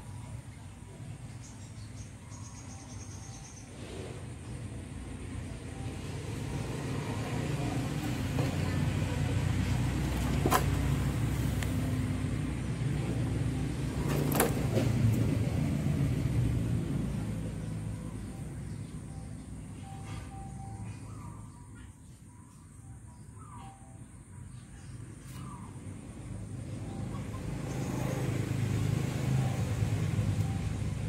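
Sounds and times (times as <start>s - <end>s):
motor vehicle rumble: 0.0s - 21.6s, 24.6s - 31.0s.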